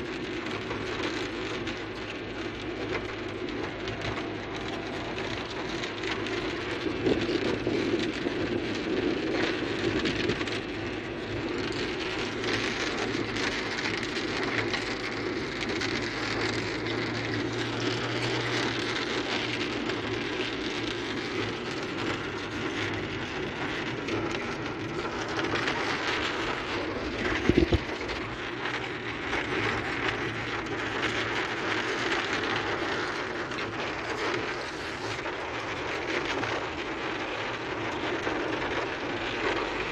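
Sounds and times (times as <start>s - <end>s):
car engine running: 0.0s - 39.9s
heavy rain on car roof: 0.0s - 39.9s.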